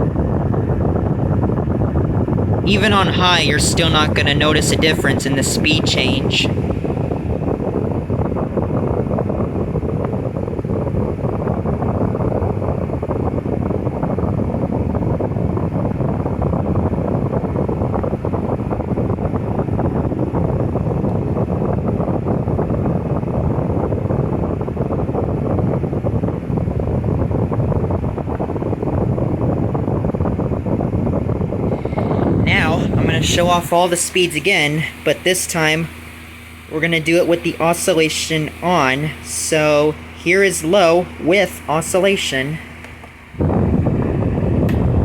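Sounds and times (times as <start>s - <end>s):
table fan rushing air: 0.0s - 45.0s.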